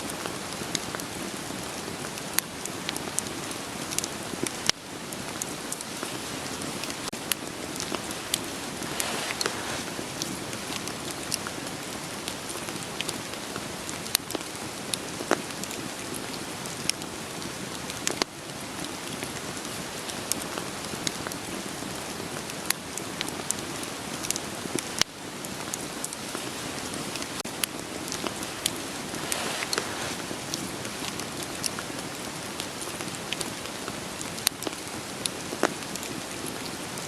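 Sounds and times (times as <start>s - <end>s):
steady rain: 0.0s - 37.0s
wood fire crackling: 0.0s - 37.0s.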